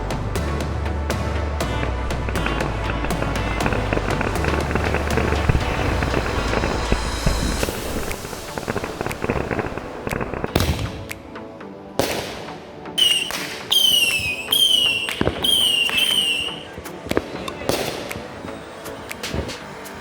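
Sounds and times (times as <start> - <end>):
fireworks cracking and popping: 1.1 - 11.3, 12.0 - 20.0
whistling fireworks: 2.3 - 11.2, 12.0 - 20.0.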